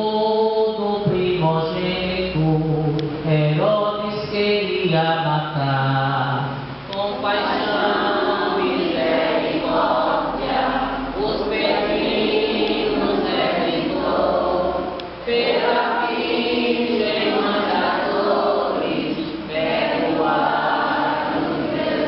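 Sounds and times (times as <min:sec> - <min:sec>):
congregation singing a hymn: 0:00.0 - 0:22.0.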